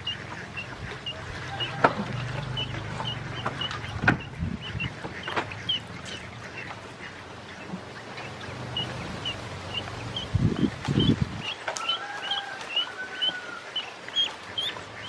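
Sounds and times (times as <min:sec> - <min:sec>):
ducklings peeping: 0:00.0 - 0:15.0
sharp water clicks: 0:00.0 - 0:15.0.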